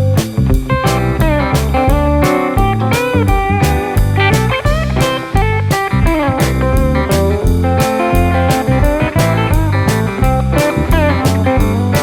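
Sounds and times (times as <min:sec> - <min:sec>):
bass: 0:00.0 - 0:12.0
blues-rock music: 0:00.0 - 0:12.0
drum beat: 0:00.0 - 0:12.0
electric slide guitar: 0:00.0 - 0:12.0.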